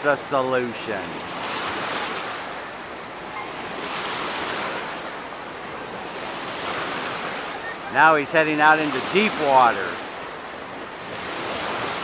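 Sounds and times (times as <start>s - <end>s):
water washing and sloshing: 0.0s - 12.0s.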